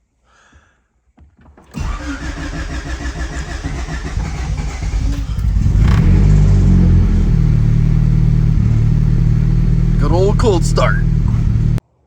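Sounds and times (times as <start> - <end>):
car engine starting and idling: 1.7 - 11.8.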